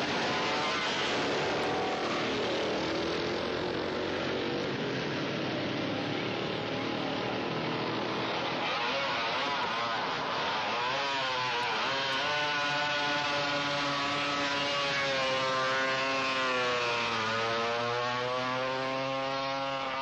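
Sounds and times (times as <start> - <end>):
motorcycle engines passing: 0.0 - 20.0.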